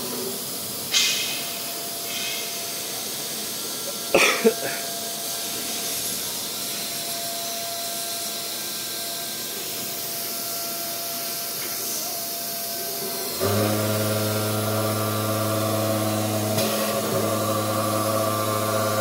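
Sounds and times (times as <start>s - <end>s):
router machine hiss and whine: 0.0s - 19.0s.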